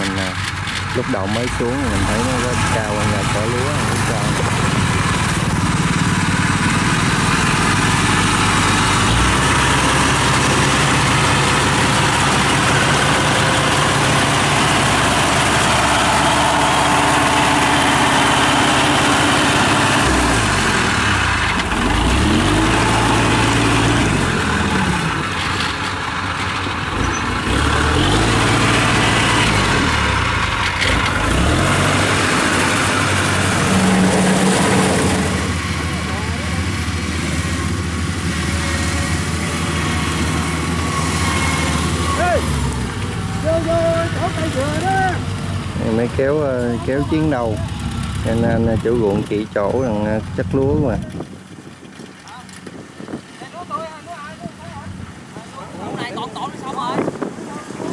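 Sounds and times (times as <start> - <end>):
combine harvester engine: 0.0 - 57.9
tracked carrier engine running: 0.0 - 57.9.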